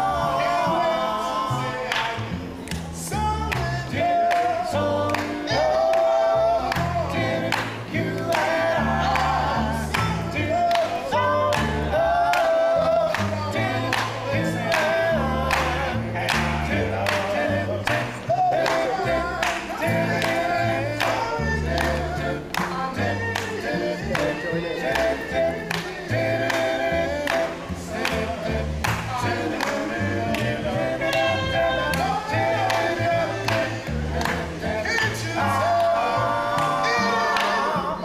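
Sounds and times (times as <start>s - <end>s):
men singing in harmony: 0.0s - 38.0s
plucked double bass: 0.0s - 38.0s.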